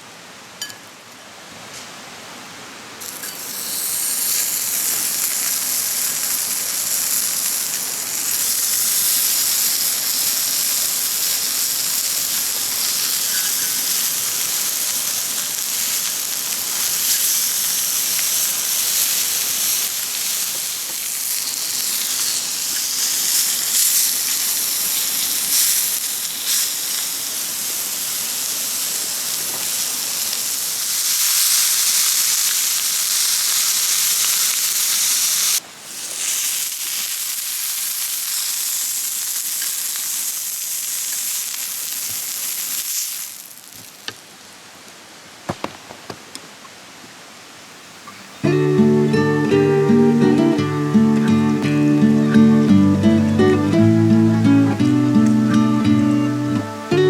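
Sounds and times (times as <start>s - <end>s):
meat sizzling: 3.0s - 44.6s, 47.9s - 57.0s.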